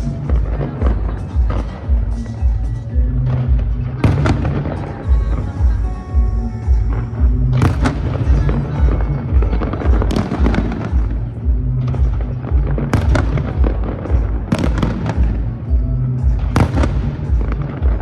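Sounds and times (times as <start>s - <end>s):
fireworks bangs and crackles: 0.0s - 18.0s
music with low beat: 0.0s - 18.0s.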